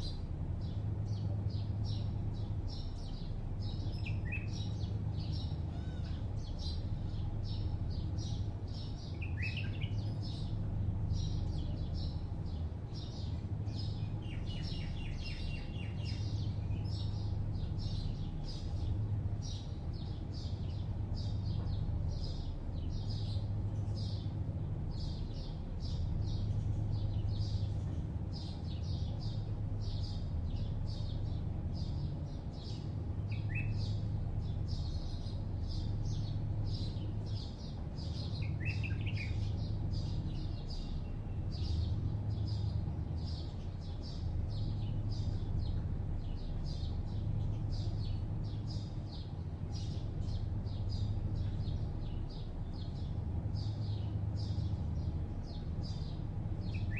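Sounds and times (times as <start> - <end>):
distant city traffic hum: 0.0 - 56.9
small birds chirping: 0.0 - 56.9.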